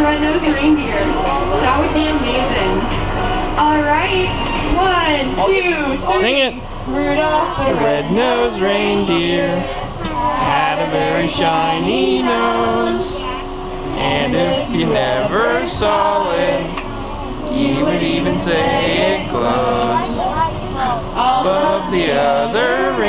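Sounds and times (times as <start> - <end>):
group of voices singing: 0.0 - 23.0.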